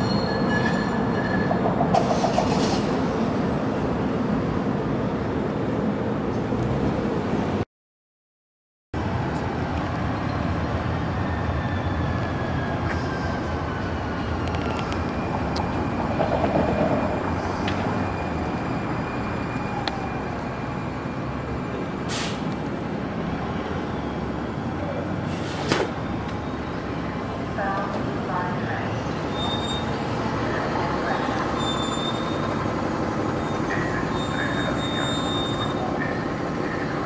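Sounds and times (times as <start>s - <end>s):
light-rail train pulling in: 0.0s - 7.6s, 9.0s - 37.0s.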